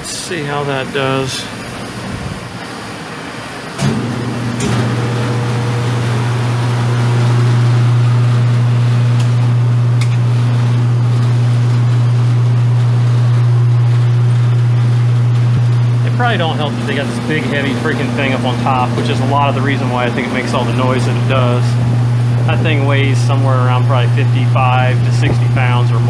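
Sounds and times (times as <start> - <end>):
low motor hum: 0.8 - 26.0.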